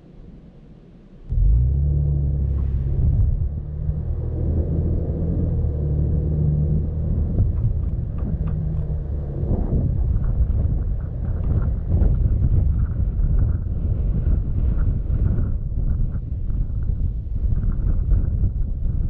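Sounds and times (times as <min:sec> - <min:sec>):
vehicle driving on gravel road: 0:01.3 - 0:19.0.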